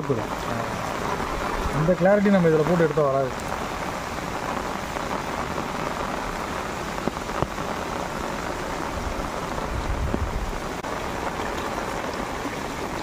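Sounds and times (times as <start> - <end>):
rain on standing water: 0.0 - 13.0.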